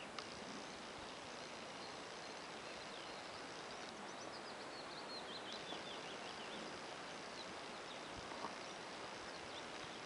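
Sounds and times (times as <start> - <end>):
songbird chattering: 0.0 - 10.0
steady outdoor hiss: 0.0 - 10.0.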